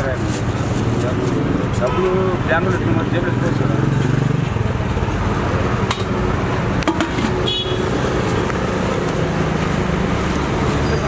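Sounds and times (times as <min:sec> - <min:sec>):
road traffic engine rumble: 0:00.0 - 0:11.0.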